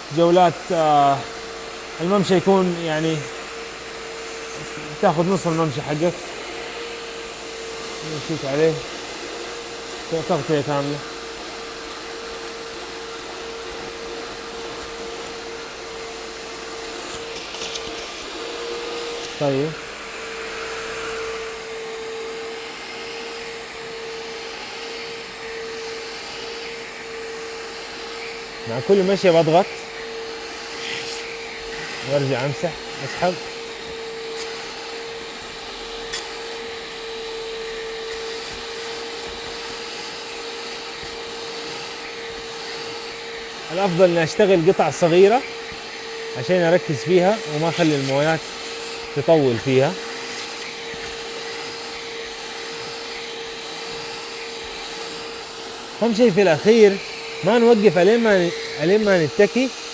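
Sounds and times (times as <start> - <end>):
rushing hiss of water suction: 0.0 - 59.9
spot cleaner suction motor whine: 0.0 - 59.9.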